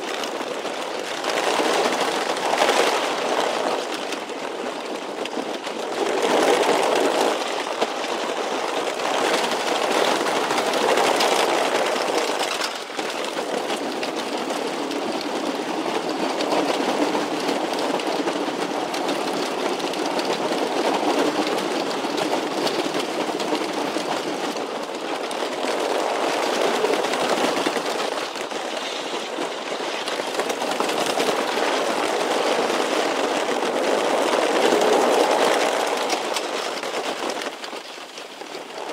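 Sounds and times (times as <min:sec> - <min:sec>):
roller coaster rolling on track: 0:00.0 - 0:38.9.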